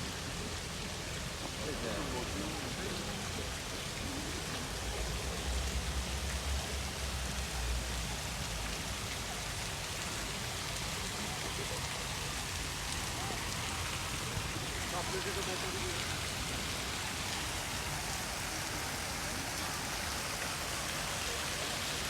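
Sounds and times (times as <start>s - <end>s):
steady street hiss: 0.0s - 22.0s.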